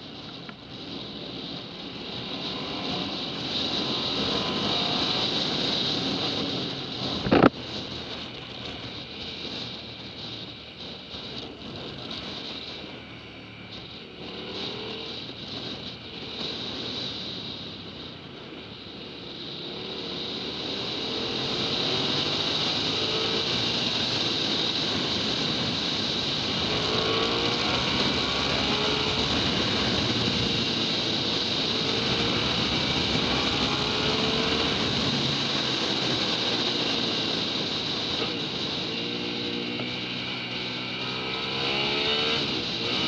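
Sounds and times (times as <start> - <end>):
motorcycle engine at road speed: 0.0 - 43.0
wind rush on microphone: 0.0 - 43.0.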